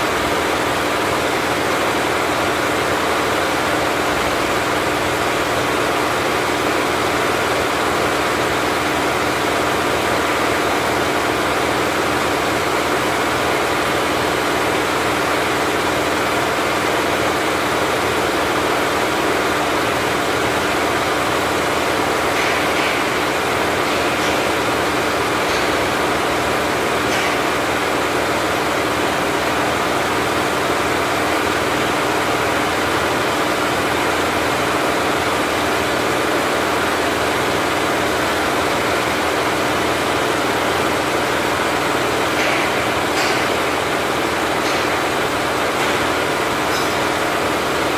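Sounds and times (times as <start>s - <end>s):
embroidery machine running: 0.0s - 47.9s.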